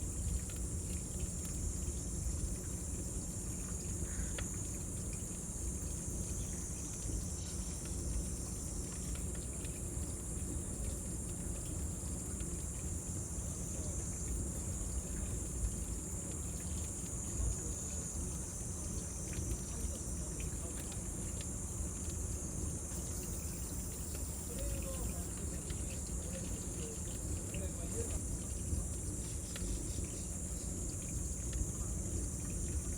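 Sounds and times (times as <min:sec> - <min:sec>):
cicadas droning: 0:00.0 - 0:32.9.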